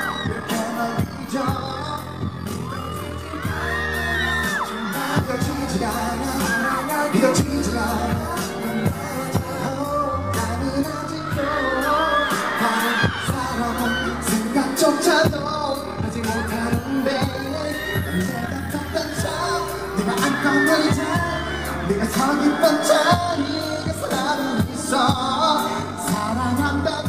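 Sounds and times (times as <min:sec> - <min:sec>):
man singing into microphone: 0:00.0 - 0:27.0
pop music over loudspeakers: 0:00.0 - 0:27.0.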